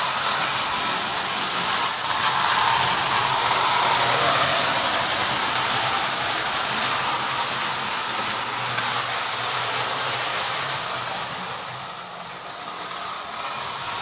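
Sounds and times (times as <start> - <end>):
toy train hissing whoosh: 0.0 - 14.0.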